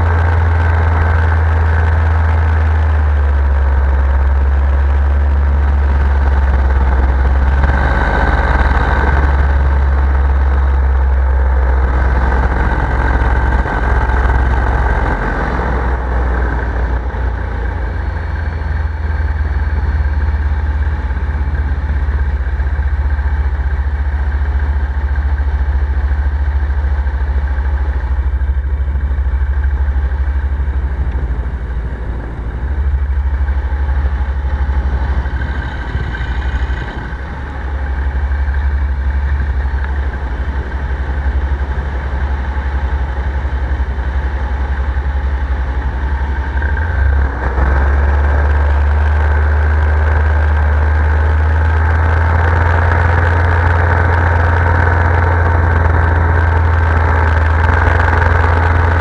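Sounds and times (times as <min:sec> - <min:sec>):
paramotor engine droning: 0:00.0 - 0:59.0.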